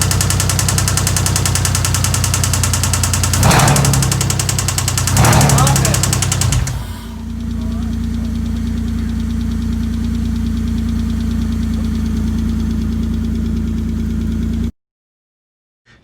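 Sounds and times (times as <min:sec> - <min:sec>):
car engine idling: 0:00.0 - 0:14.7
engine rod knocking: 0:00.0 - 0:14.7.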